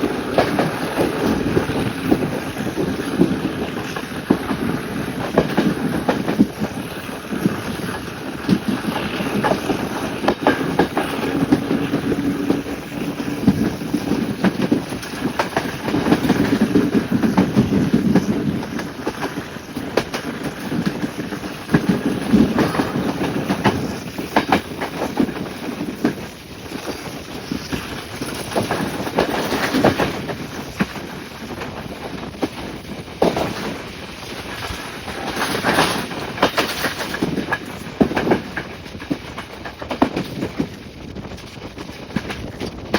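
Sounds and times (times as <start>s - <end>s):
train rumbling: 0.0s - 42.9s
wheels clacking over rails: 0.0s - 42.9s.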